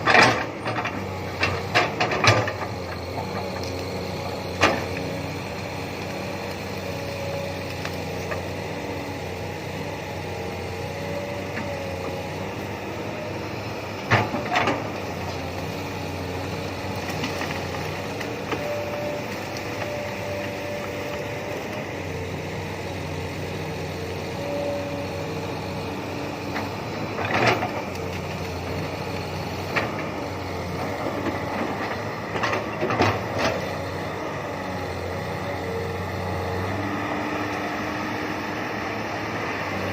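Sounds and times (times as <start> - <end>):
excavator engine whining: 0.0 - 39.9.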